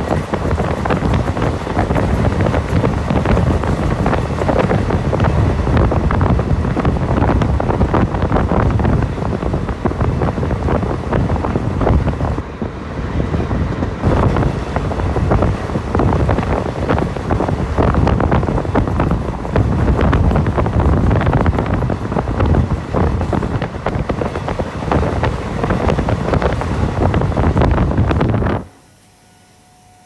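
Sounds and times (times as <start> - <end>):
train wheels clattering on rails: 0.0 - 28.7
wind buffeting microphone: 0.0 - 28.7.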